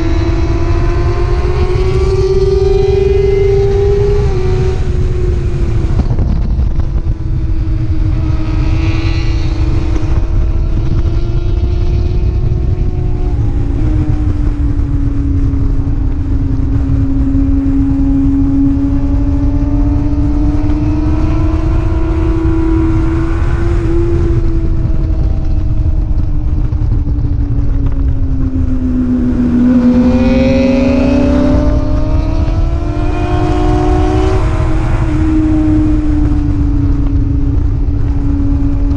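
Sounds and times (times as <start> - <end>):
rush of wind: 0.0 - 38.9
superbike engine running hard: 0.0 - 38.9.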